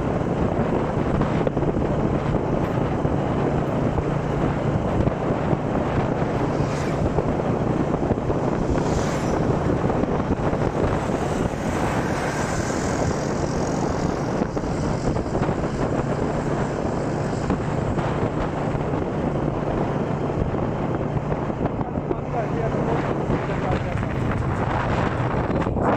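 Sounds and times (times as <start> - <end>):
road noise: 0.0 - 25.9
vehicle engine drone: 0.0 - 25.9
wind: 0.0 - 25.9.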